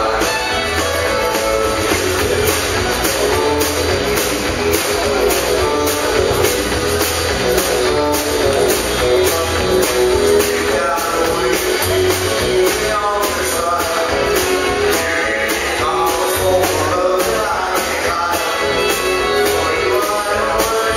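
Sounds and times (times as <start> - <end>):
bass: 0.0 - 20.9
drums steady beat: 0.0 - 20.9
electric guitar: 0.0 - 20.9
strummed acoustic guitar: 0.0 - 20.9.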